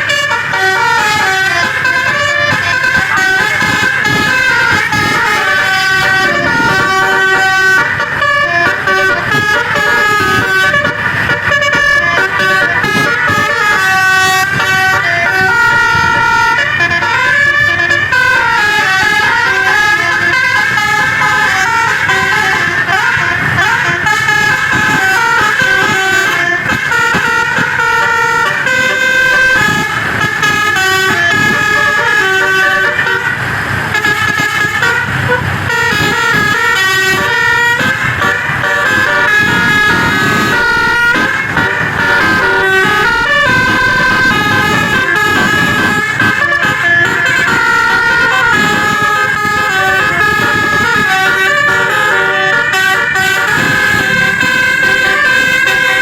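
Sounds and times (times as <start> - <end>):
musical air horn playing tune: 0.0 - 56.0.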